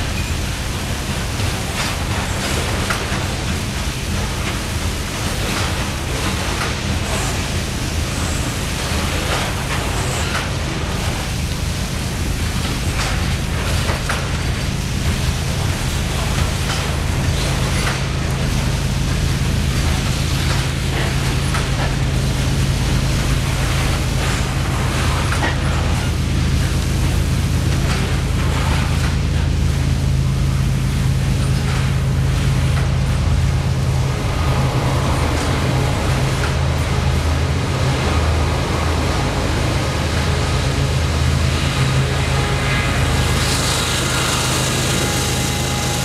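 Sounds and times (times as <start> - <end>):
low engine drone: 0.0 - 46.0
rail cars rolling past: 0.0 - 46.0.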